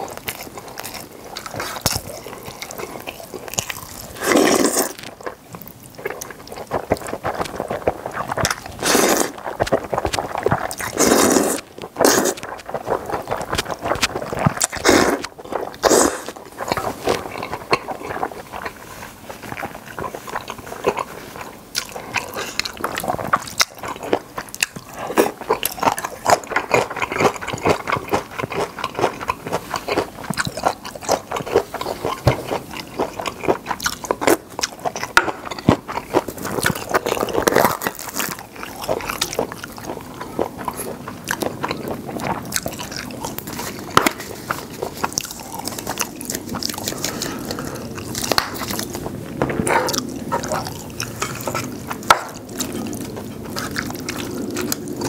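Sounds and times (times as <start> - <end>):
wet chewing and crunching: 0.0 - 55.0.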